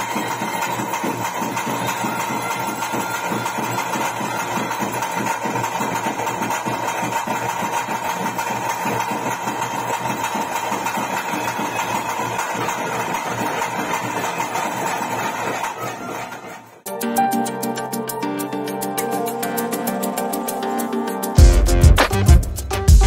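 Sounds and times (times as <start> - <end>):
fast drumming: 0.0 - 17.3, 19.0 - 23.0.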